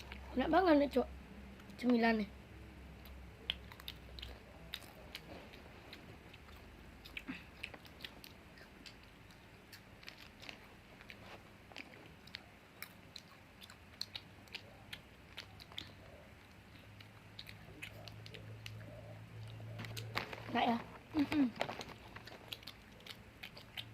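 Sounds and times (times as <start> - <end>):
person chewing crunchy snack: 3.5 - 23.9.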